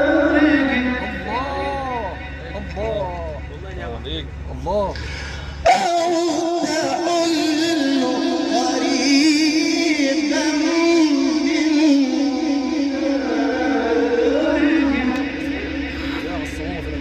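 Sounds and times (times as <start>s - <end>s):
person chanting melodically: 0.0s - 3.7s, 4.3s - 17.0s.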